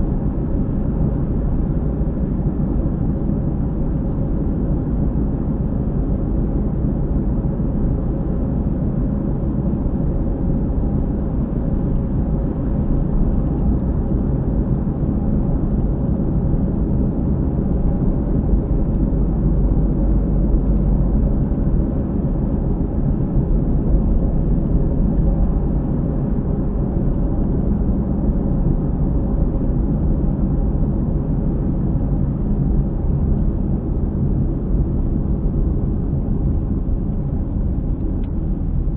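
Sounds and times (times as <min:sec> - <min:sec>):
road and tyre drone: 0:00.0 - 0:38.9.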